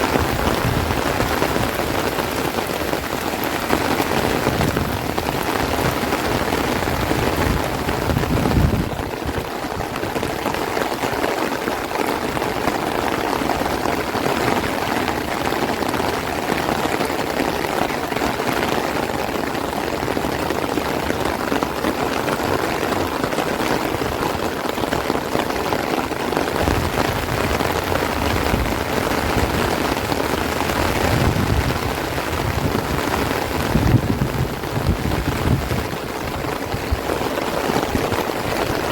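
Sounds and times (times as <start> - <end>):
heavy rain on plants and trees: 0.0 - 38.9
wind rumble on microphone: 0.0 - 38.9.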